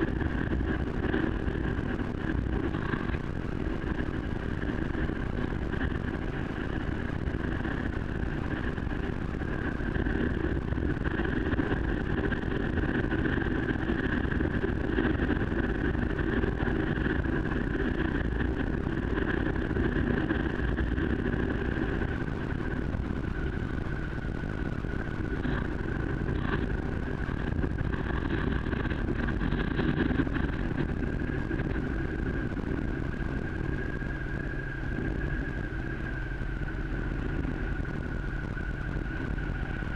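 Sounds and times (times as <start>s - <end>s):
road and wind rush: 0.0s - 39.9s
steady high whine: 0.0s - 39.9s.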